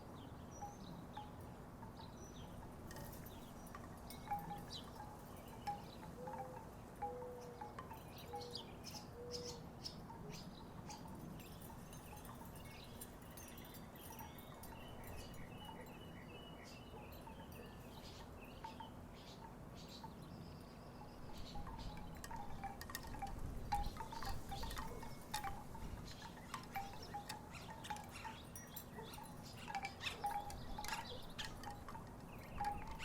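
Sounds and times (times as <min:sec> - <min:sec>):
wooden wind chimes clacking: 0:00.6 - 0:33.0.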